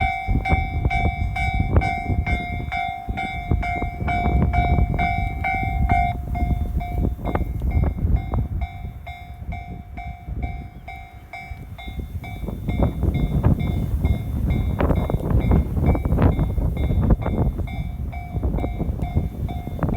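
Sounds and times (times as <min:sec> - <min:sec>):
level crossing alarm ringing: 0:00.0 - 0:19.9
train rumbling past: 0:00.0 - 0:19.9.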